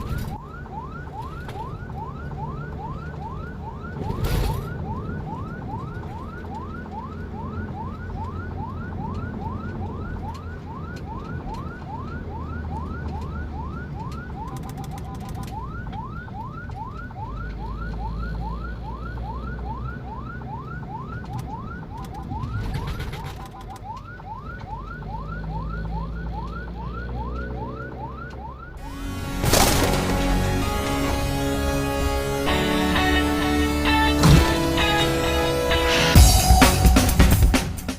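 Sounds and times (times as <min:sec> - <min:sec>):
ambulance siren yelping: 0:00.0 - 0:37.9.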